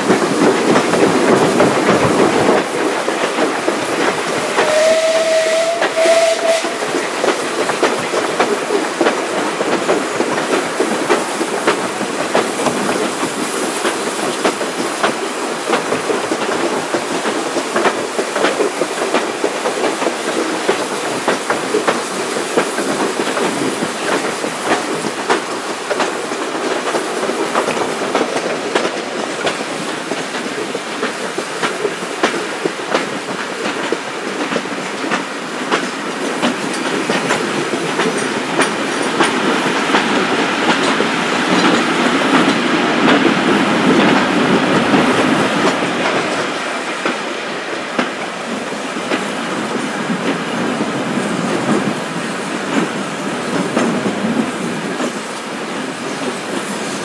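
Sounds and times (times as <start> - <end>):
wheels clicking over rail joints: 0.0 - 57.0.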